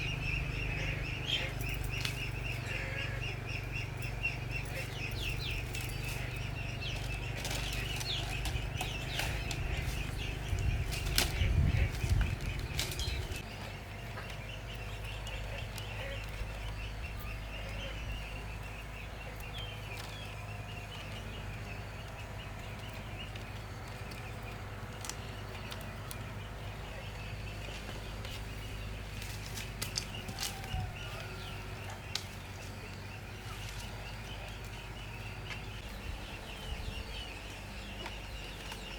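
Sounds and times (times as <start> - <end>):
low steady rumble: 0.0 - 38.9.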